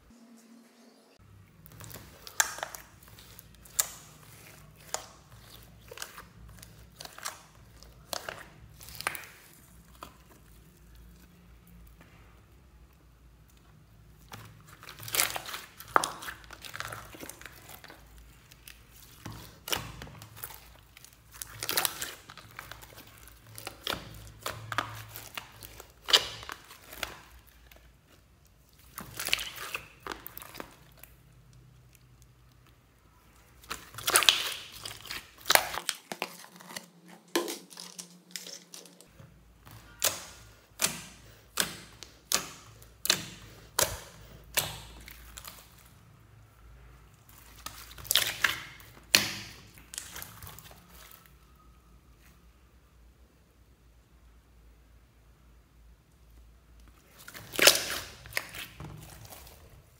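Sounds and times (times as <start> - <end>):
slime squelching and popping: 1.5 - 46.0, 47.1 - 51.4, 56.8 - 59.9.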